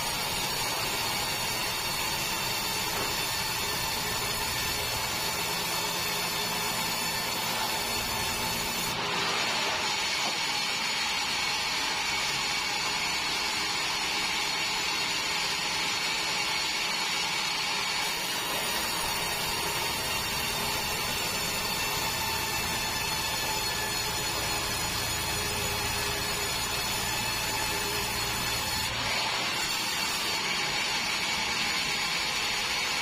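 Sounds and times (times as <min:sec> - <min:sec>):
band sawmill running: 0:00.0 - 0:33.0.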